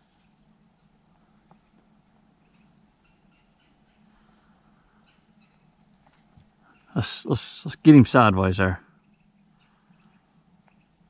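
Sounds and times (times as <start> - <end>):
steady high-pitched whine: 0.0 - 11.0.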